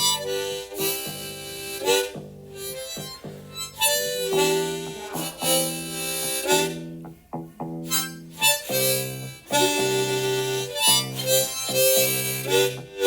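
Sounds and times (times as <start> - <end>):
guitar accompaniment: 0.0 - 13.0
harmonica playing: 0.0 - 13.0.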